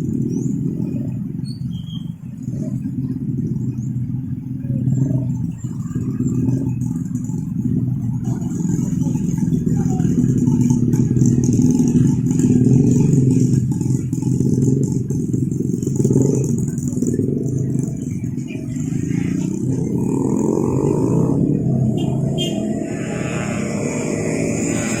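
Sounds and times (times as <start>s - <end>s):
motorcycle engines: 0.0s - 25.0s
car engines pulling away: 4.4s - 25.0s.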